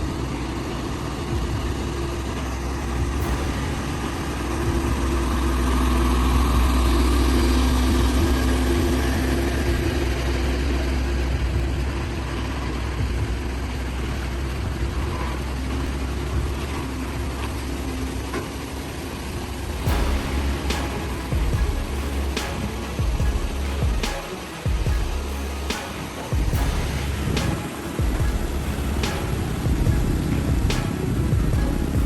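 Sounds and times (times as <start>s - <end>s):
heavy truck engine running: 0.0s - 32.0s.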